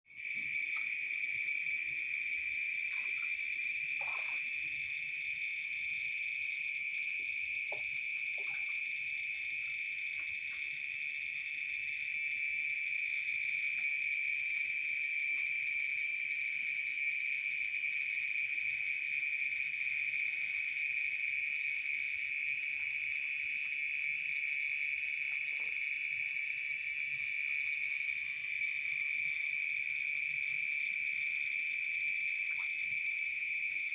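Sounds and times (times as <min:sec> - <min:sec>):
insect high-pitched trill: 0:00.1 - 0:33.9.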